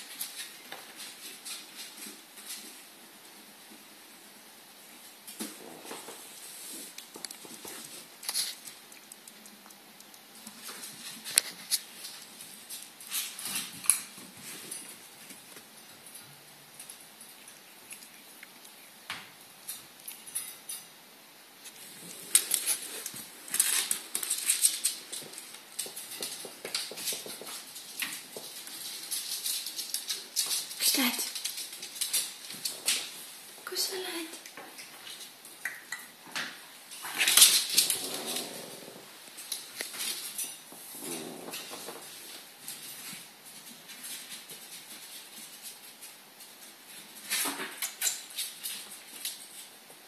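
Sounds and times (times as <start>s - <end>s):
ferret rustling and scrabbling: 0.0s - 9.6s, 10.3s - 18.7s, 21.7s - 33.7s, 36.5s - 50.0s.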